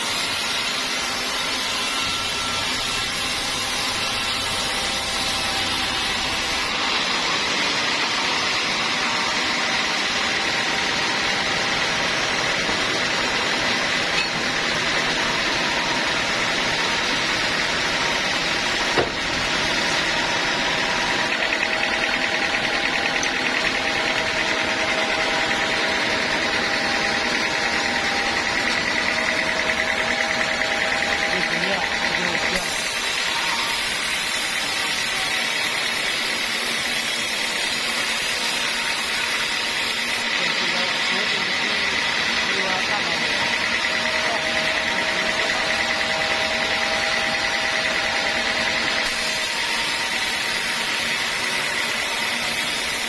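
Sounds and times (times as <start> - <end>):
sawmill machinery whining: 0.0 - 53.0.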